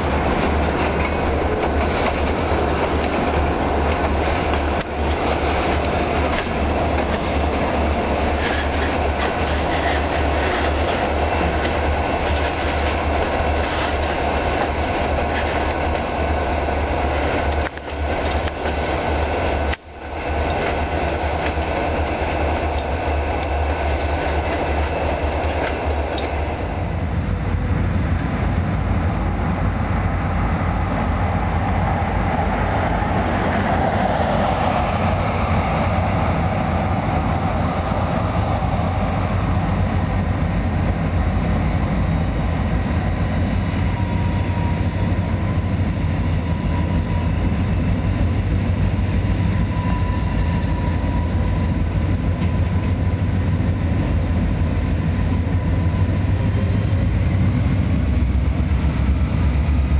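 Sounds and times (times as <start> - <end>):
freight train wheels rattling: 0.0 - 59.9.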